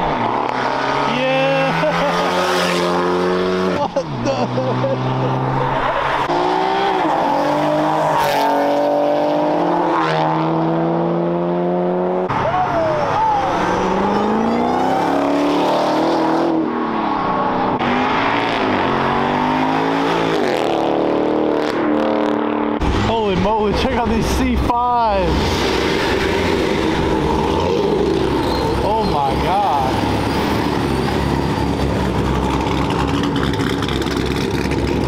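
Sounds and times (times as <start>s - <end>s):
cars accelerating hard: 0.0s - 35.0s.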